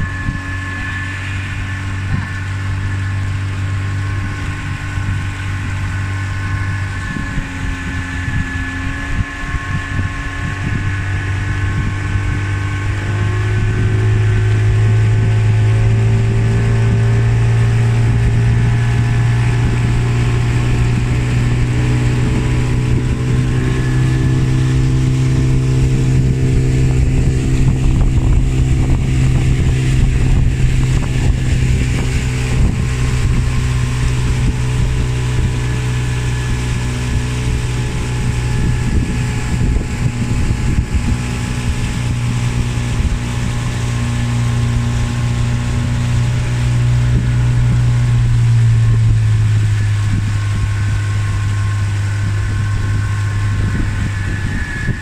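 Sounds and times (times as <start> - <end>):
outboard motor droning: 0.0 - 55.0
water rushing off hull: 0.0 - 55.0
wind: 0.0 - 55.0.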